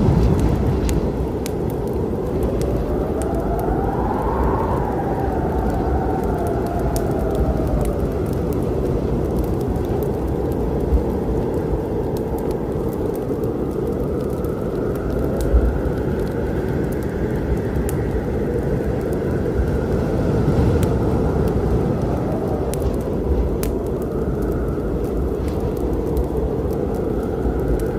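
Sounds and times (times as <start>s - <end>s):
low storm rumble: 0.0s - 27.9s
wood fire crackling and popping: 0.0s - 27.9s.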